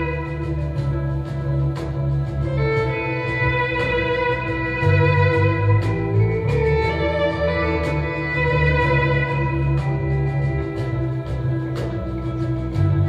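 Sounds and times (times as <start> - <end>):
bowed string melody: 0.0 - 13.0
heavy bass: 0.0 - 13.0.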